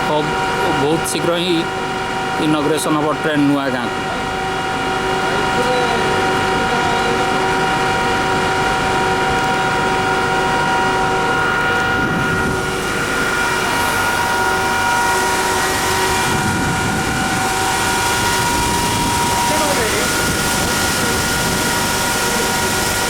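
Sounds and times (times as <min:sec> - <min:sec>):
electric train whine: 0:00.0 - 0:23.0.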